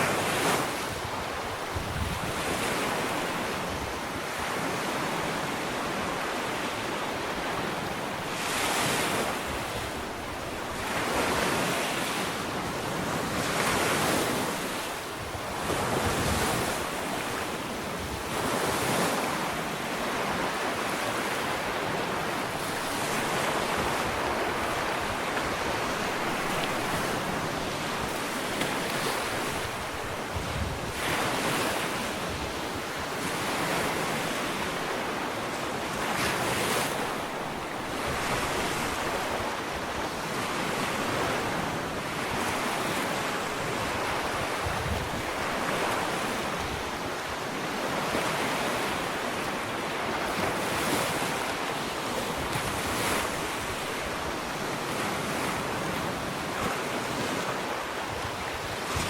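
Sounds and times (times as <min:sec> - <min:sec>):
ocean waves on sandy beach: 0:00.0 - 0:59.0
wind on microphone: 0:00.0 - 0:59.0.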